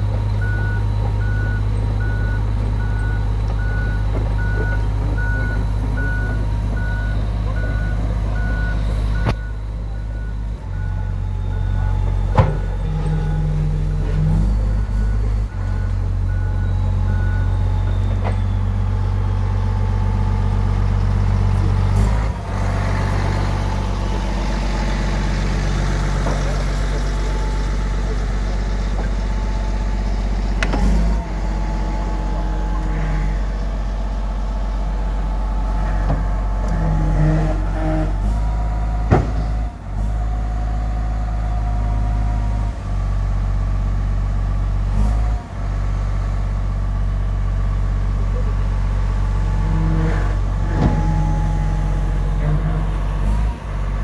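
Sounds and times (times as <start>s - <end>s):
bulldozer diesel engine idling: 0.0s - 54.0s.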